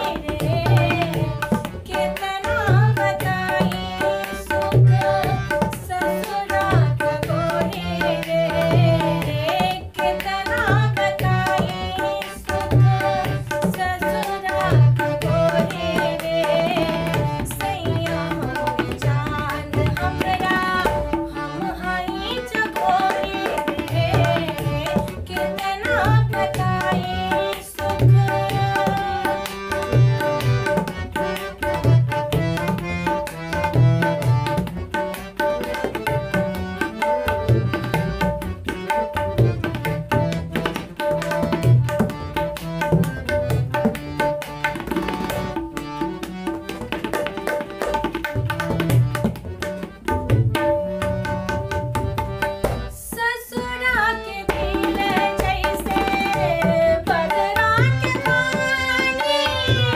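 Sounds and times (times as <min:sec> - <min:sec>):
tabla drumming: 0:00.0 - 0:59.9.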